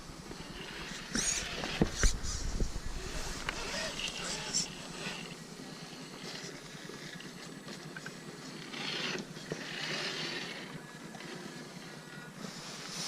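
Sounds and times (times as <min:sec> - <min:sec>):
toy car driving through mud: 0:00.3 - 0:02.2, 0:02.9 - 0:13.0.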